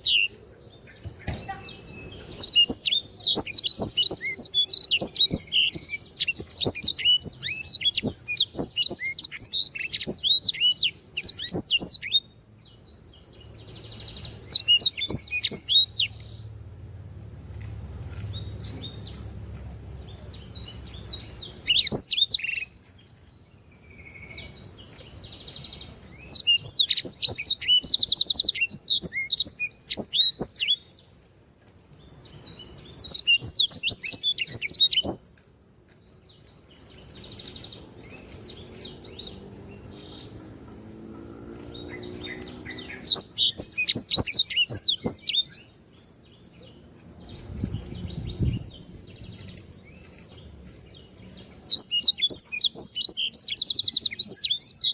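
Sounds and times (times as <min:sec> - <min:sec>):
bird twittering trills: 0:00.0 - 0:16.5, 0:18.2 - 0:31.3, 0:32.0 - 0:35.4, 0:36.0 - 0:54.9.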